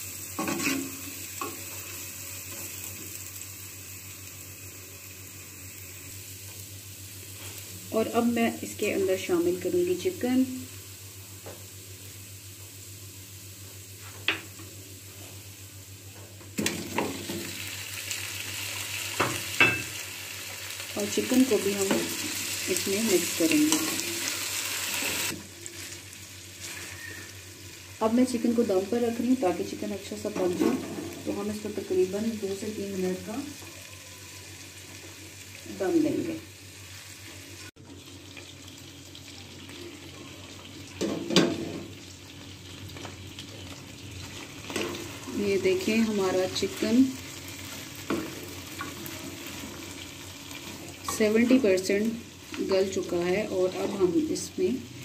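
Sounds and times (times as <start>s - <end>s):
oil sizzling under frying onions: 0.0s - 55.0s.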